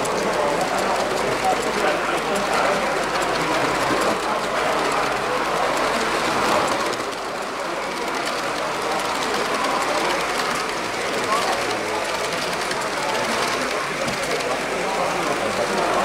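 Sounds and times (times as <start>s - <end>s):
model train wheels rattling: 0.0s - 16.0s
voices murmuring: 0.0s - 16.0s.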